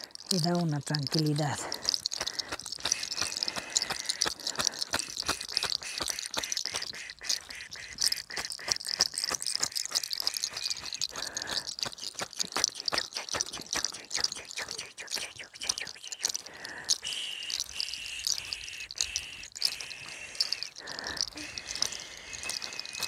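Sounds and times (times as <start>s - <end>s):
hair crackling and snapping: 0.0s - 23.0s.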